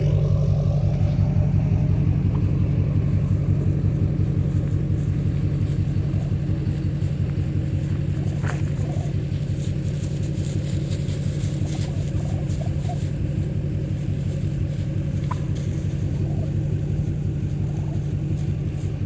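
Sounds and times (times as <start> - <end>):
low motor-like rumble: 0.0 - 19.0.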